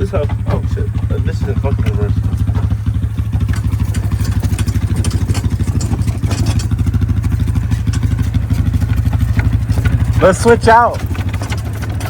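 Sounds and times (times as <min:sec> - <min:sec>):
light clatter: 0:00.0 - 0:12.0
small engine running: 0:00.0 - 0:12.0.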